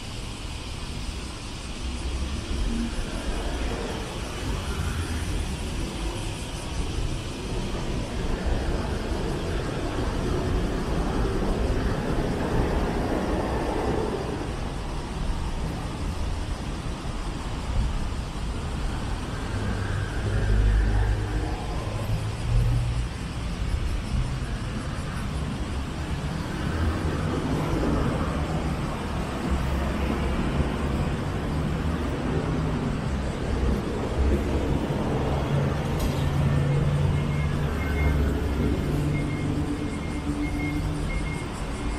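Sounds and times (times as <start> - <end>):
city road traffic: 0.0 - 41.9.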